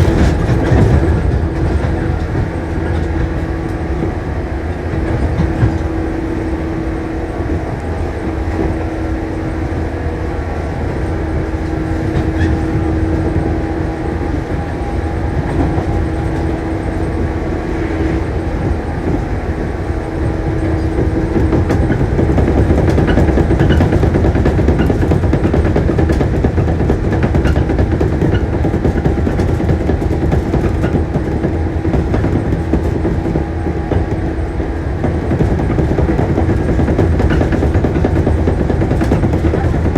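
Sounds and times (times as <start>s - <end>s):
electric train hum: 0.0s - 39.9s
rail noise: 0.0s - 39.9s.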